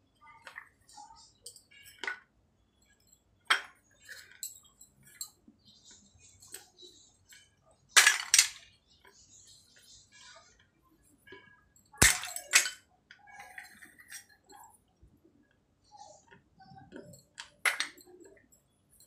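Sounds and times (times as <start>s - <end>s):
clay pieces clinking: 0.2s - 10.4s, 11.1s - 14.8s, 16.0s - 19.0s.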